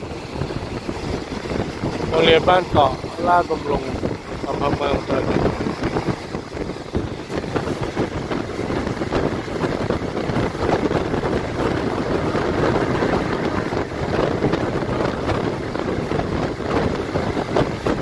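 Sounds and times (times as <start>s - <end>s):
train wheels rumbling on rails: 0.0s - 18.0s
wind buffeting microphone: 0.0s - 18.0s.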